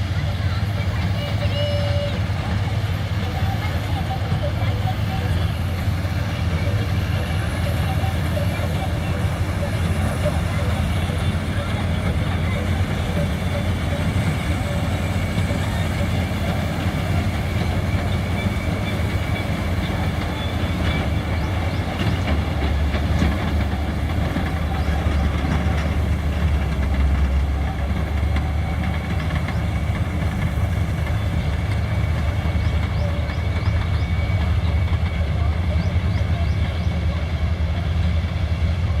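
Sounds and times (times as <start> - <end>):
combine harvester engine drone: 0.0 - 39.0.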